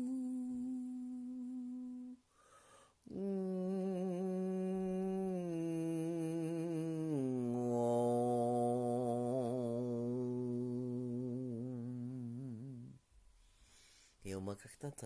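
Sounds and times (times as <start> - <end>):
man humming long notes: 0.0 - 2.2, 3.1 - 13.0.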